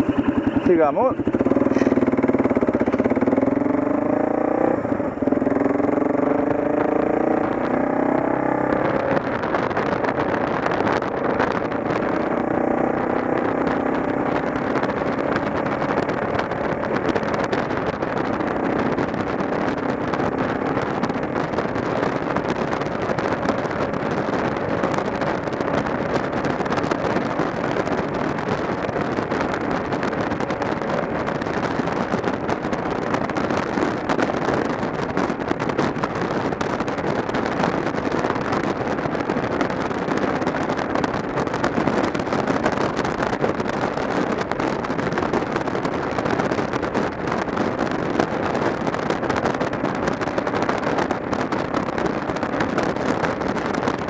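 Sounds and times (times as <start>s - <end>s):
motorcycle engine accelerating: 0.0s - 54.0s
wind rush on microphone: 0.0s - 54.0s.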